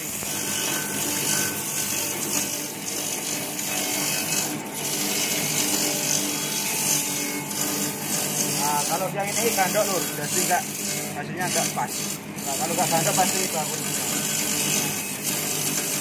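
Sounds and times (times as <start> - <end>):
electric motor hum: 0.0 - 16.0
sharpening disc grinding hiss: 0.0 - 16.0.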